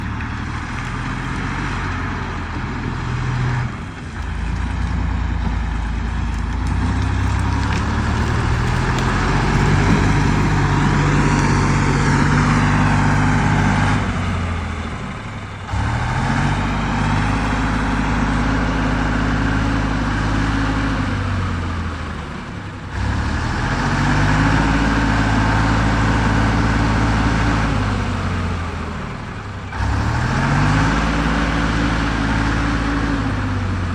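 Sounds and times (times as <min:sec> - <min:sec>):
truck engine revving under load: 0:00.0 - 0:33.9.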